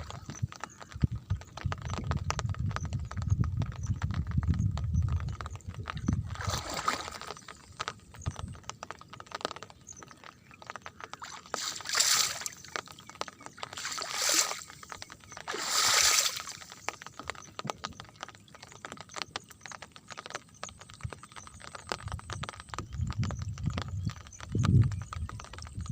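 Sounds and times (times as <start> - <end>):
heavy rain on hard surfaces: 0.0 - 6.3, 7.1 - 25.9
rain splashing: 0.0 - 25.9.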